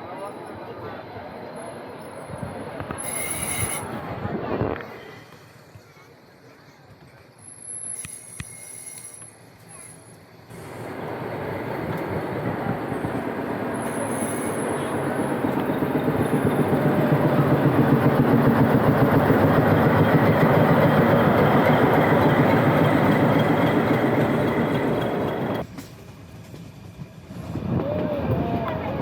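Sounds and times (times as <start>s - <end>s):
train wheels rattling on track: 1.4s - 29.0s.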